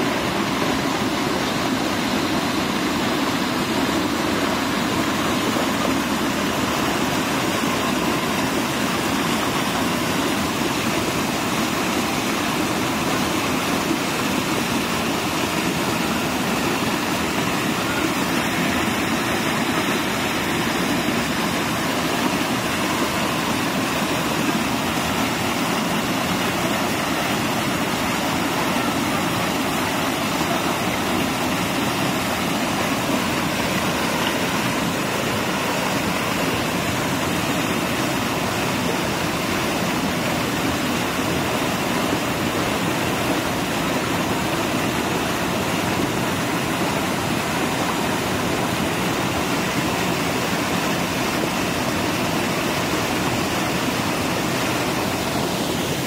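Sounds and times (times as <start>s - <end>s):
whitewater rushing over rocks: 0.0s - 56.0s.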